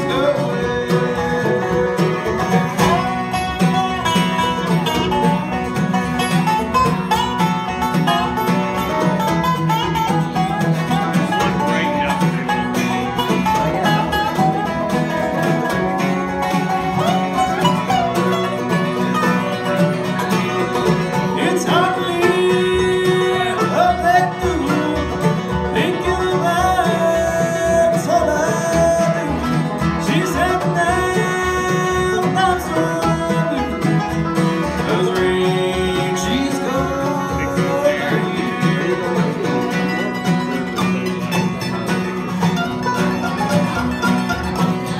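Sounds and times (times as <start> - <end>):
acoustic bluegrass band playing: 0.0 - 44.9.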